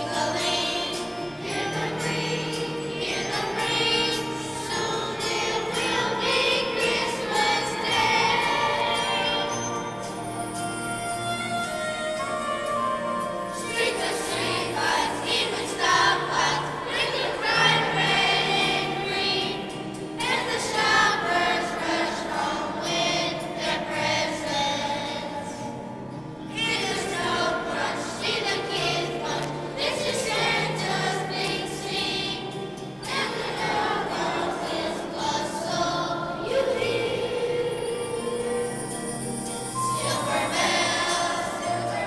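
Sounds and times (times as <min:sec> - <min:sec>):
children's choir singing: 0:00.0 - 0:42.0.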